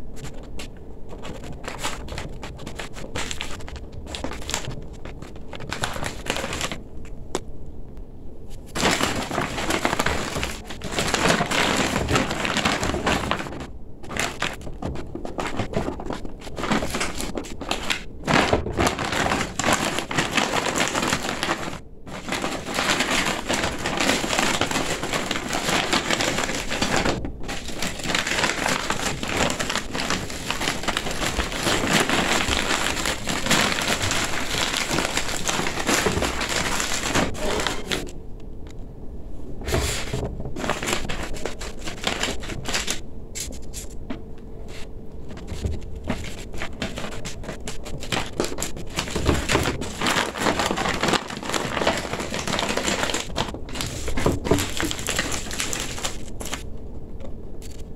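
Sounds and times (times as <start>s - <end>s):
fabric crinkling and rustling: 0.0s - 7.4s, 8.5s - 38.2s, 39.6s - 56.7s.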